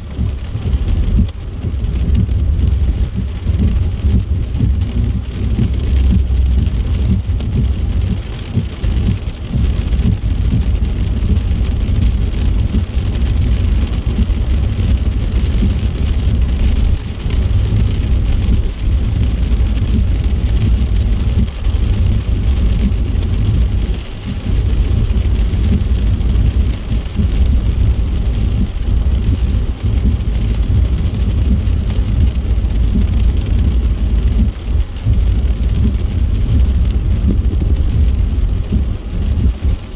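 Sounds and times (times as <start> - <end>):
rain hissing: 0.0 - 39.9
road rumble: 0.0 - 39.9.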